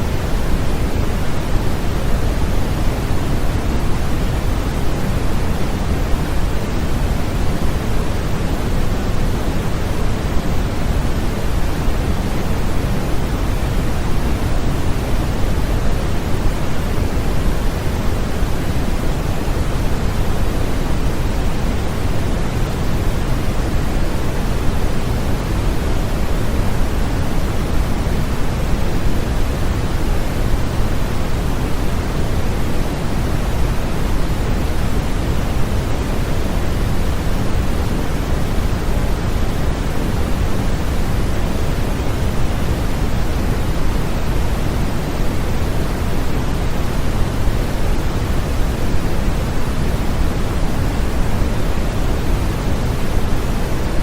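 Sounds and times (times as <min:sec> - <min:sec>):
steady electronic pink noise: 0:00.0 - 0:54.0.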